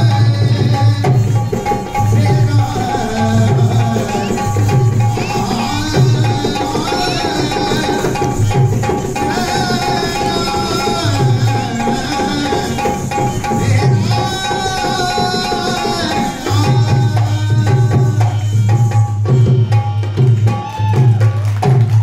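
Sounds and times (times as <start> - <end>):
hand drum rhythm: 0.0 - 22.0
wavering melody line: 1.4 - 20.3.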